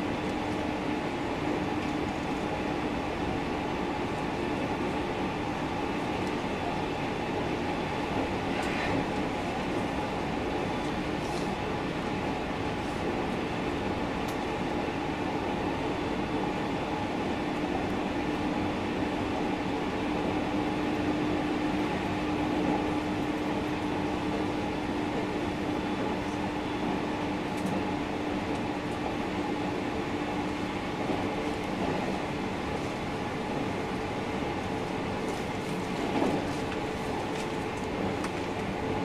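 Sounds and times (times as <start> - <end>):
train rumbling in motion: 0.0 - 39.0.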